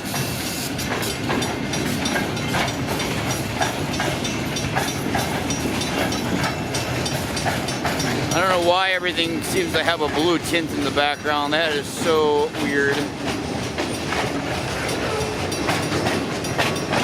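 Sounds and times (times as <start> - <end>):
freight train cars rumbling: 0.0 - 17.0
wheels clicking over rail joints: 0.0 - 17.0.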